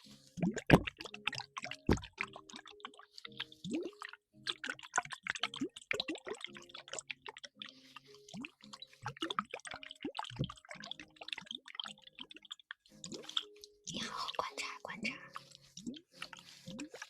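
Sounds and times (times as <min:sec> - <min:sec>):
soft background music: 0:00.0 - 0:17.0
squishy wet pops and drips: 0:00.4 - 0:14.0, 0:15.0 - 0:17.0.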